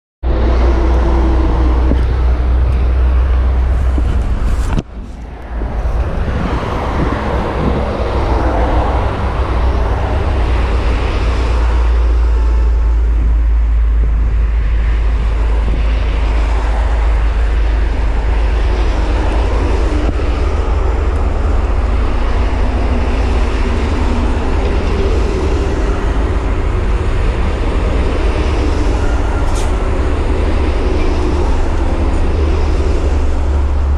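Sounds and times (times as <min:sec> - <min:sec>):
highway traffic rumble: 0:00.2 - 0:33.9.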